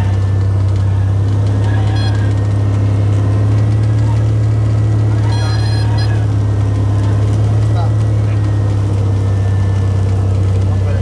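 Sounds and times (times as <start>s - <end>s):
plane engine droning in cabin: 0.0s - 11.0s.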